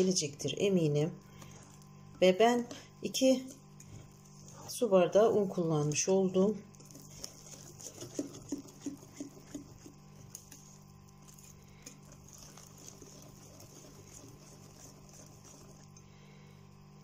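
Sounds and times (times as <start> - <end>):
whisk beating batter in bowl: 0.0 - 17.0.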